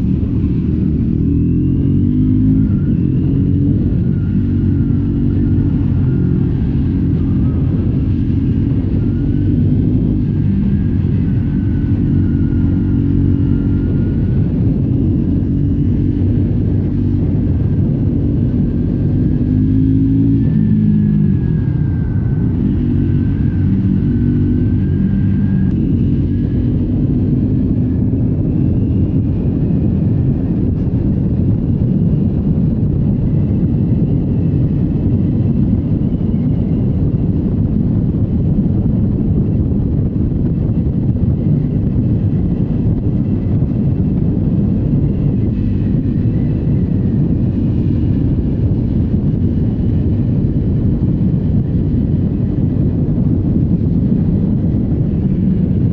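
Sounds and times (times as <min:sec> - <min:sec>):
motorcycle engine: 0:00.0 - 0:55.9
wind rushing: 0:00.0 - 0:55.9.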